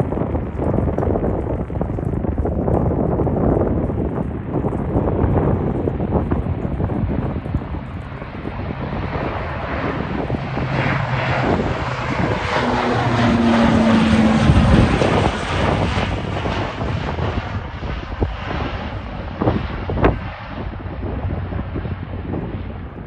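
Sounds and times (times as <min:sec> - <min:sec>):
turboprop plane droning overhead: 0:00.0 - 0:23.0.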